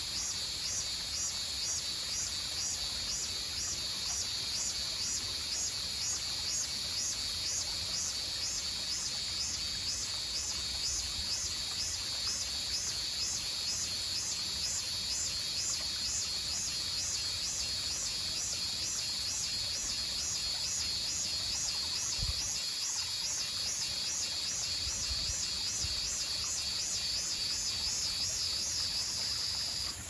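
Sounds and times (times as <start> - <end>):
insects hissing: 0.0 - 30.0.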